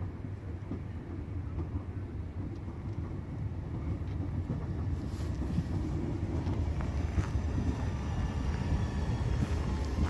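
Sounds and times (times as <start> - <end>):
train rumble: 0.0 - 10.0
wind buffeting microphone: 0.0 - 10.0.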